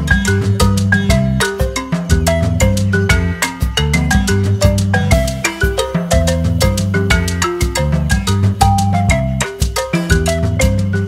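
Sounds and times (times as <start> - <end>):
marimba melody: 0.0 - 11.0
steady bass beat: 0.0 - 11.0.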